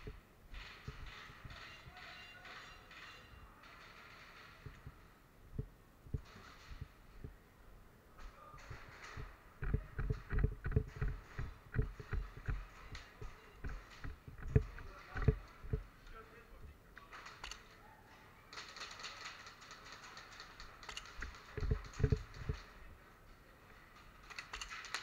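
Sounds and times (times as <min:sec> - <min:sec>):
muffled footsteps and gear knocks: 0:00.0 - 0:02.9, 0:03.7 - 0:07.4, 0:08.2 - 0:17.6, 0:19.6 - 0:25.0.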